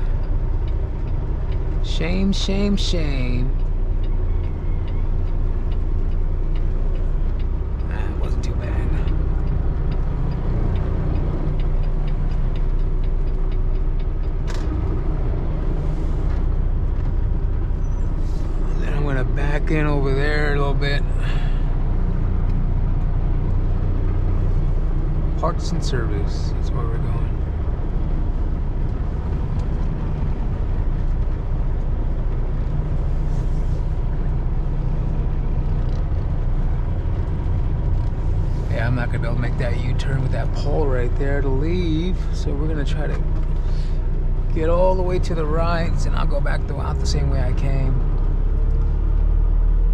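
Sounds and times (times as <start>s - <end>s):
faint regular ticking: 0.0s - 49.5s
diesel engine low rumble: 0.0s - 49.9s.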